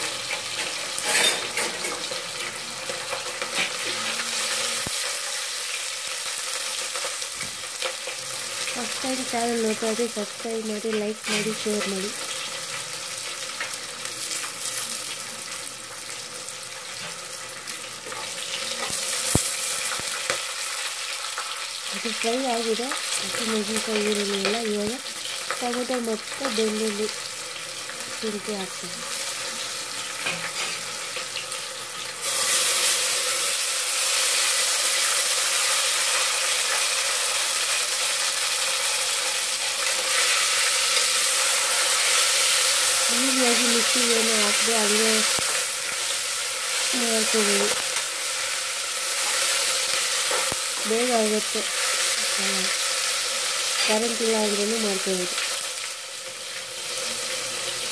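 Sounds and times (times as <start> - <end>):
vegetables sizzling in oil: 0.0 - 57.9.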